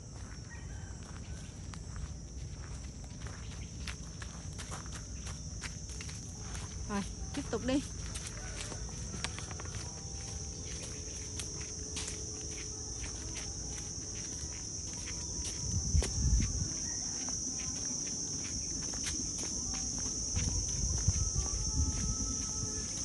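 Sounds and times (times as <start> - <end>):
insects chirping trill: 0.0 - 23.0
light footsteps on path: 0.0 - 23.0.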